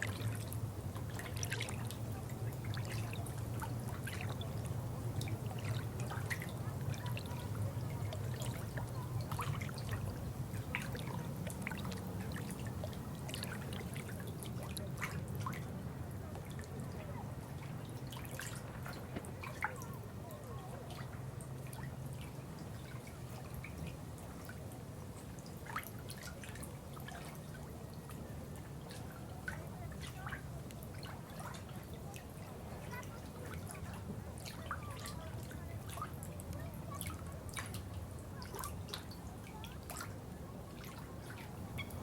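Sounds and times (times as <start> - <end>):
low rush of flowing water: 0.0 - 42.0.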